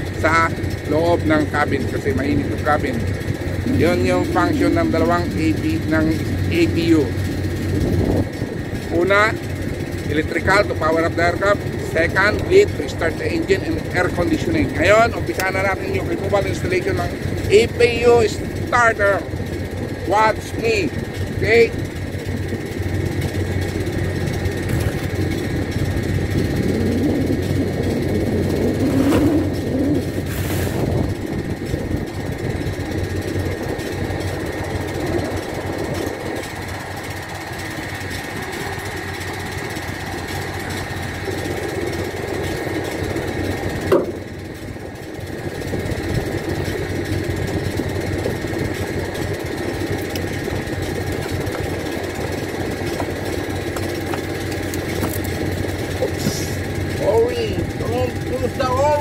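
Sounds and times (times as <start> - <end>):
engine humming with whine: 0.0 - 59.0.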